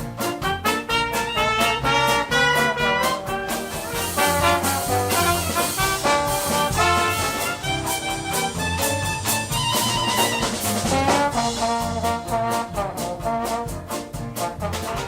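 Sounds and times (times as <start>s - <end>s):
swing jazz with brass horns: 0.0s - 15.0s.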